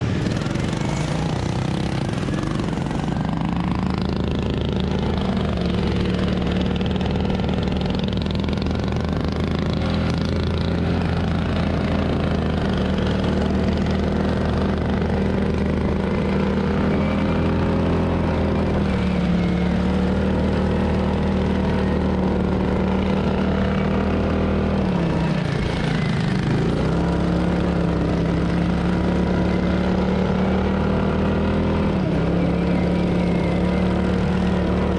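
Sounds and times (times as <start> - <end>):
lawn mower engine revving: 0.0 - 34.9.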